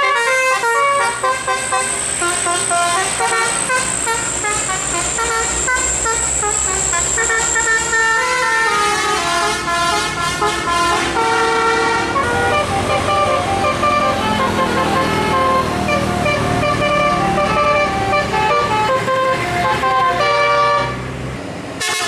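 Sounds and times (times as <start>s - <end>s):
multi-tone air horn melody: 0.0s - 21.1s, 21.8s - 22.0s
bus engine rumble: 0.0s - 22.0s.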